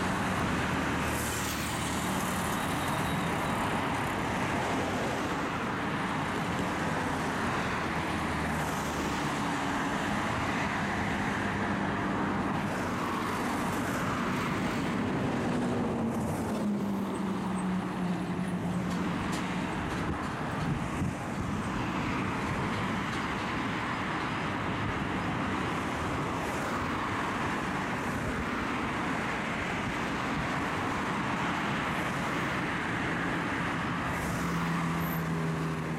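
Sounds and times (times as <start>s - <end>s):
car and truck engines in traffic: 0.0s - 35.9s.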